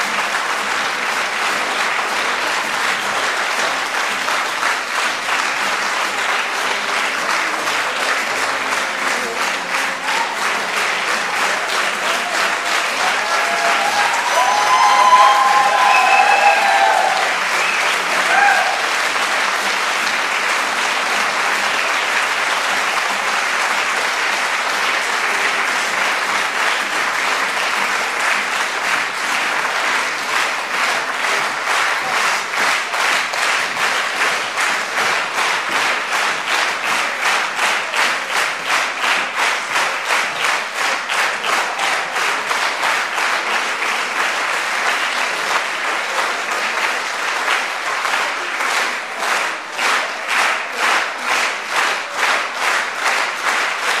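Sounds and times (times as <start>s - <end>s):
audience applauding: 0.0s - 54.0s
rhythmic unison clapping: 0.0s - 54.0s.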